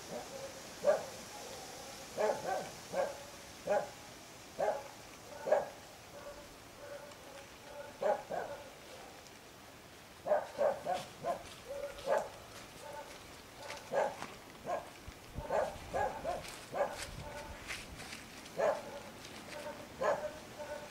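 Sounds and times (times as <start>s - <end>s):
dog barking: 0.1s - 4.0s, 4.6s - 9.2s, 10.2s - 17.7s, 18.6s - 20.9s.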